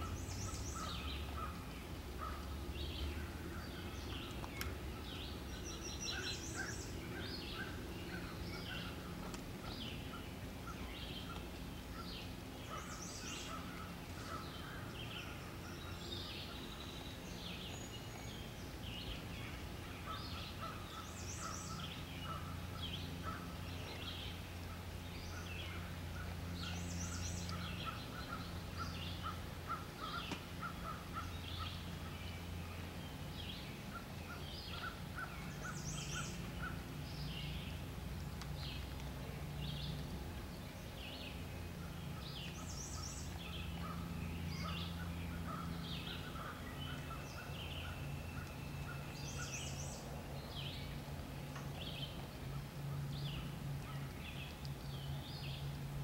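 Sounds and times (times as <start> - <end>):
steady low hum: 0.0 - 56.0
wild birds chirping and singing: 0.0 - 56.0.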